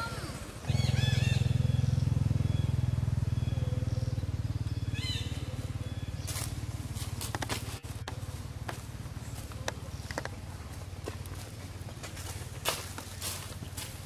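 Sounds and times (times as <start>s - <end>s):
small engine running: 0.6s - 14.0s.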